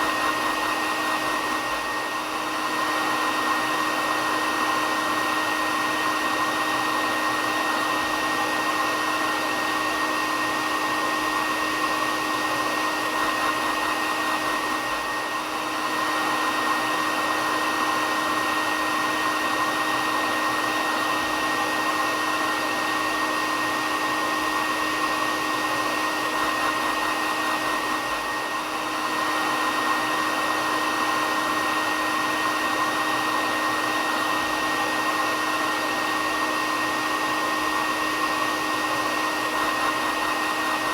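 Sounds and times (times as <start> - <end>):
hair dryer whirring: 0.0 - 40.9.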